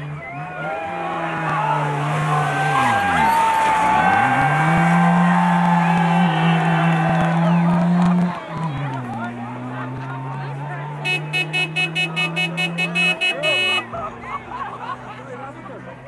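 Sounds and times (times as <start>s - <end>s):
two-stroke engine revving high: 0.8s - 14.1s.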